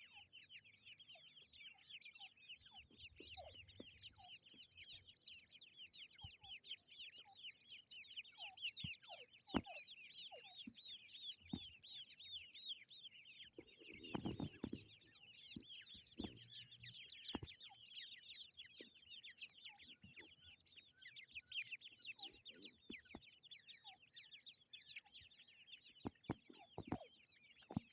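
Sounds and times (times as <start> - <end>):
chicks cheeping: 0.0 - 27.9.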